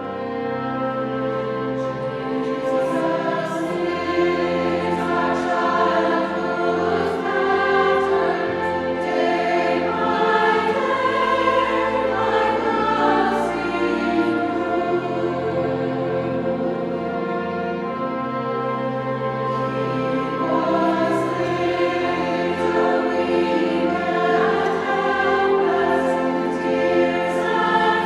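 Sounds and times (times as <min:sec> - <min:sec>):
choir singing: 0:00.0 - 0:28.0
orchestra accompanying: 0:00.0 - 0:28.0.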